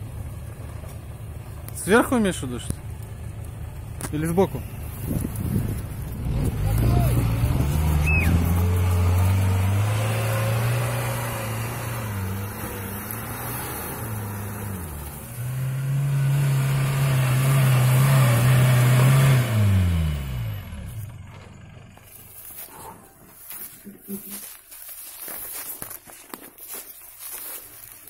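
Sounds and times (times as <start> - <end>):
suv engine revving: 0.0 - 22.9.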